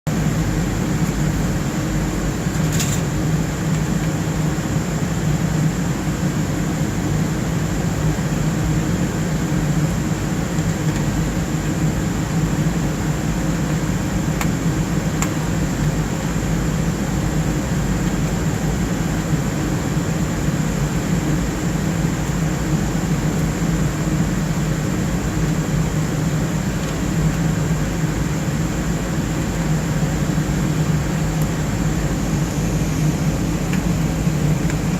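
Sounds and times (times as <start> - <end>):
server cooling fans humming: 0.1 - 34.9.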